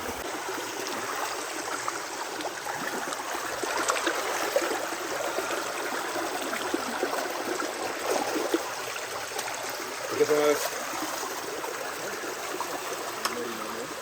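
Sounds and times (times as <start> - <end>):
small water splashes: 0.0 - 14.0.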